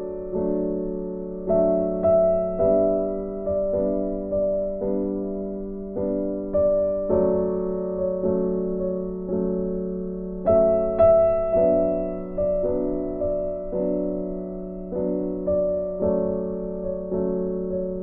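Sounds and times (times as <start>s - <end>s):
slow gentle piano piece: 0.0s - 18.0s.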